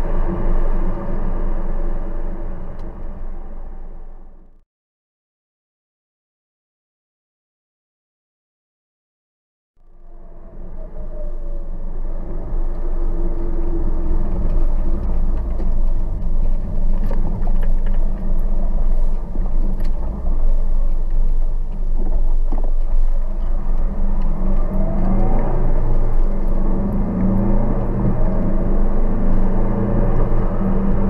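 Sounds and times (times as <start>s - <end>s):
car engine and road noise: 0.0s - 4.6s, 9.8s - 31.0s.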